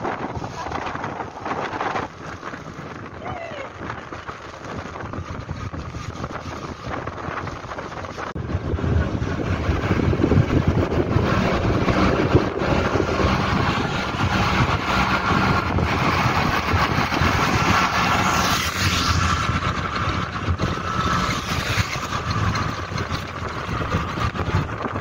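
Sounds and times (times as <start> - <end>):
road and wind noise: 0.0 - 25.0
small engine running: 4.4 - 25.0.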